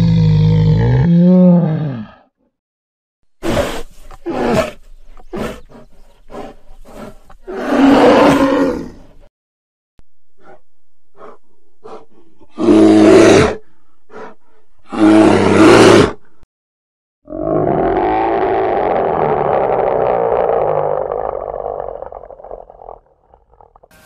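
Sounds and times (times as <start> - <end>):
bear growling and roaring: 0.0 - 2.3, 3.4 - 9.2, 10.4 - 16.2, 17.3 - 24.0.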